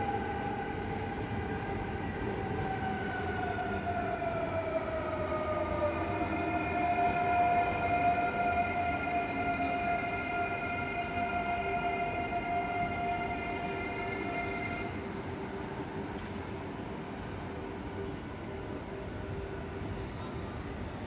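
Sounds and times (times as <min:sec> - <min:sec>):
electric train high whine: 0:00.0 - 0:21.0
train low rumble and hum: 0:00.0 - 0:21.0.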